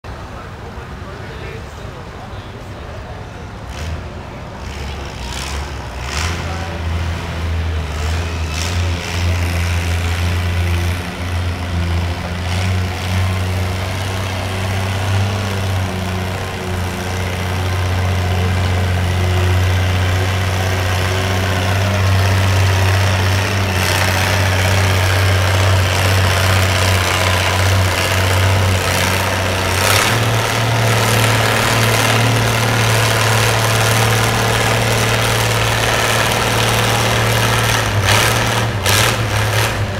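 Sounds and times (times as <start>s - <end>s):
tractor engine running under load: 3.8s - 39.9s.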